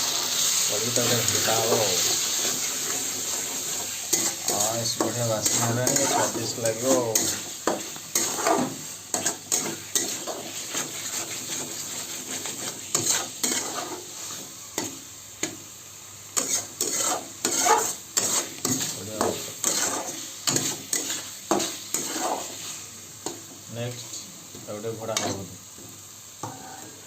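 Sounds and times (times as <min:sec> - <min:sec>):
food frying sizzle: 0:00.0 - 0:27.0
spatula scraping a pan: 0:00.3 - 0:15.6, 0:16.4 - 0:24.2, 0:24.8 - 0:25.5.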